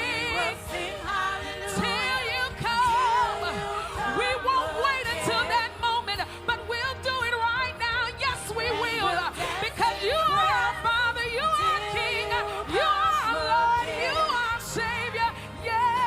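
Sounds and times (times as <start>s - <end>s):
gospel voices singing: 0.0s - 16.0s.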